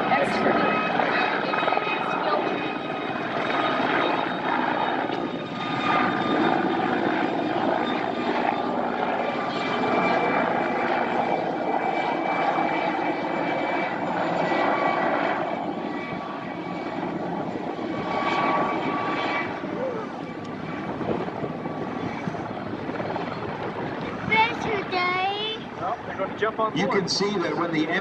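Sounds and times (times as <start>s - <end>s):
turbine aircraft engine with whine: 0.0s - 28.0s.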